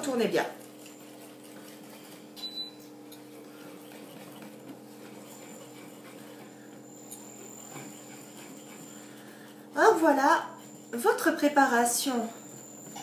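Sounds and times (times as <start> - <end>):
whisk stirring batter: 0.0 - 13.0.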